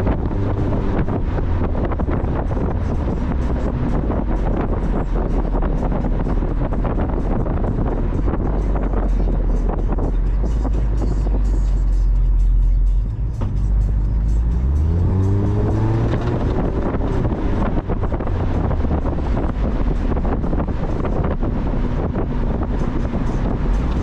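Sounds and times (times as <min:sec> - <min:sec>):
wind buffeting microphone: 0:00.0 - 0:11.8, 0:14.8 - 0:24.0
car engine accelerating: 0:00.0 - 0:24.0.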